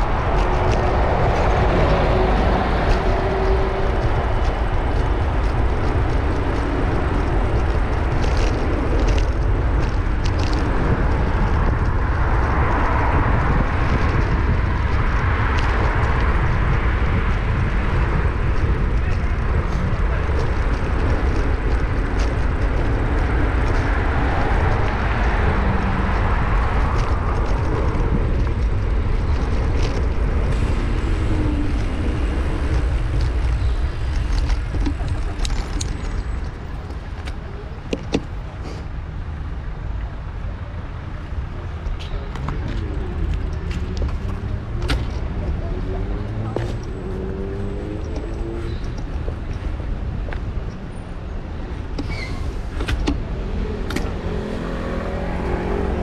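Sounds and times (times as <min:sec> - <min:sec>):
street traffic: 0:00.0 - 0:56.0
wind buffeting microphone: 0:00.0 - 0:56.0.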